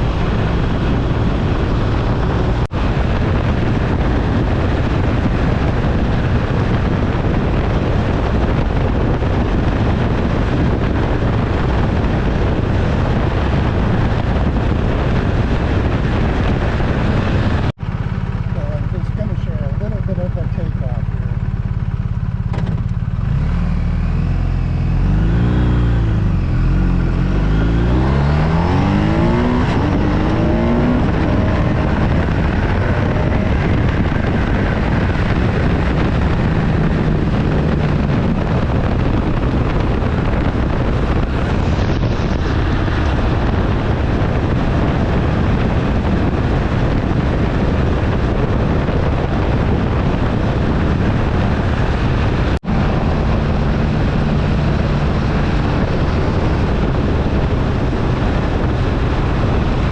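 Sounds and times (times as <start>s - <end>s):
motorcycle engine accelerating: 0.0s - 59.9s
wind rushing on microphone: 0.0s - 59.9s.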